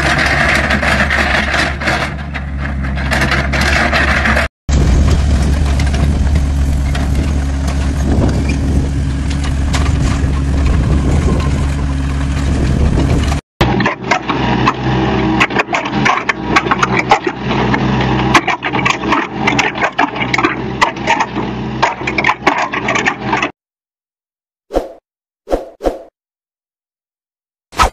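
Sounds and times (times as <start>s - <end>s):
excavator diesel engine droning: 0.0s - 23.5s.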